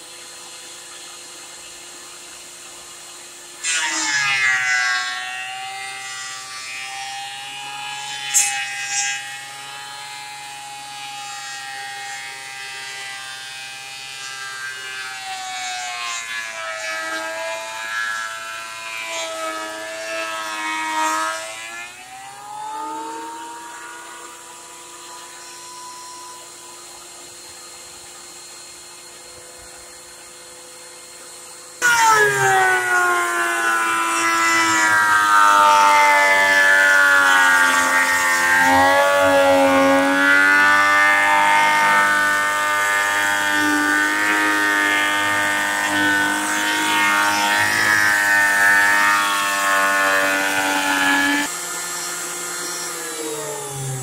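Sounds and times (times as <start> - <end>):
thickness planer motor whining: 0.0 - 54.0.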